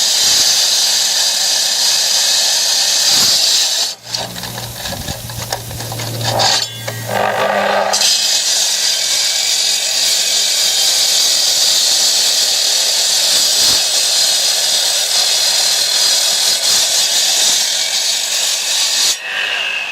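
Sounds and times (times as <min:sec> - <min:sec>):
disc cutter grinding: 0:00.0 - 0:17.6.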